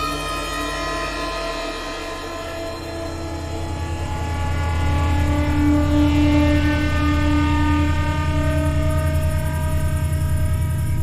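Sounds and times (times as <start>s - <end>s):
low pulsing drone: 0.0s - 11.0s.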